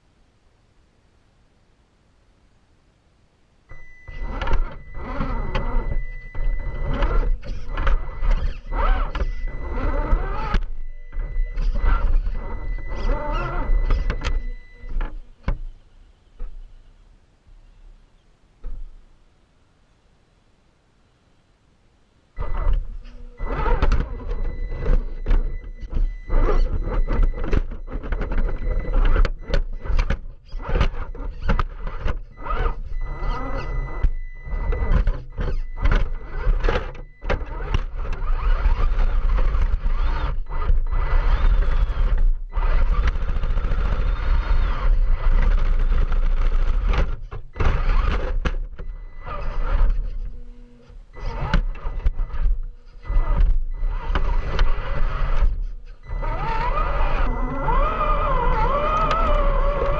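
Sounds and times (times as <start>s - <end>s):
electric motor and gears whining: 3.7s - 15.7s, 22.4s - 59.9s.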